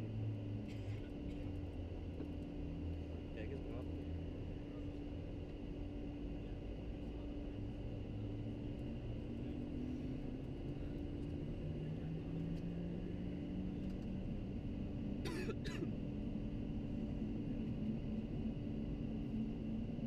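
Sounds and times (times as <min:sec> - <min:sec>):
jet engines and airflow hum: 0:00.0 - 0:20.0.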